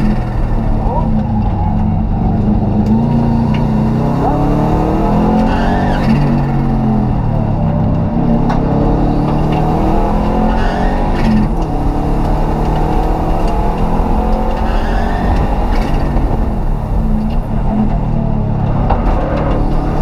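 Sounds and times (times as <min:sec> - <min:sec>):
race car engine under load: 0:00.0 - 0:20.0.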